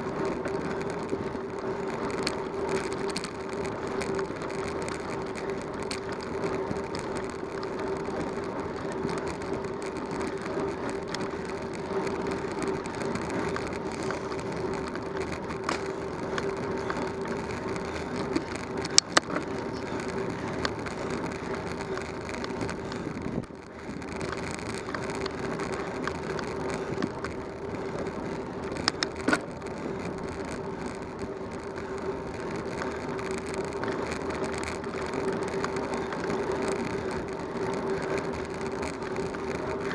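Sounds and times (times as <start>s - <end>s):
bicycle tyre and wind noise: 0.0s - 39.9s
constant hum: 0.0s - 39.9s.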